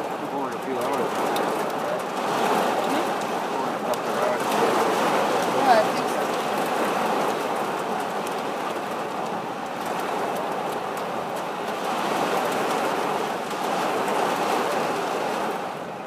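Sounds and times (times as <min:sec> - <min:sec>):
heavy rain on car glass and body: 0:00.0 - 0:16.0.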